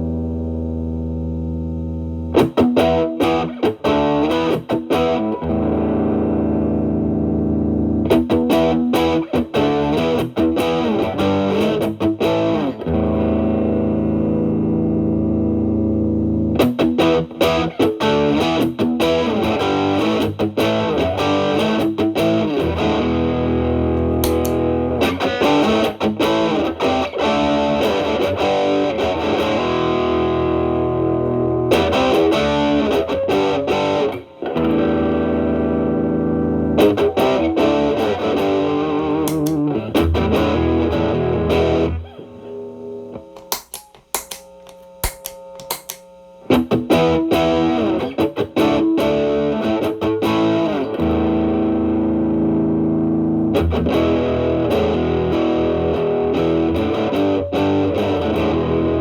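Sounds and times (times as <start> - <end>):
distorted electric guitar blues: 0.0 - 59.0.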